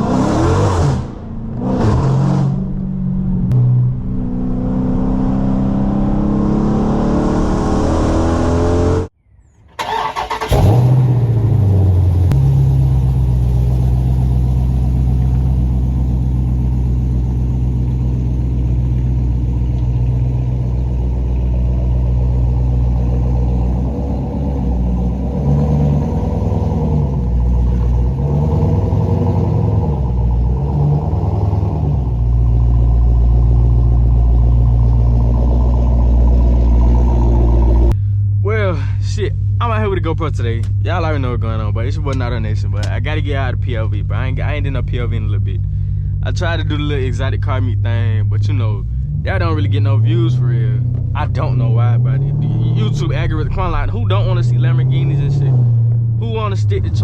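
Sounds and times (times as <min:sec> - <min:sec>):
car engine revving: 0:00.0 - 0:09.1, 0:09.8 - 0:38.5, 0:39.3 - 0:57.0.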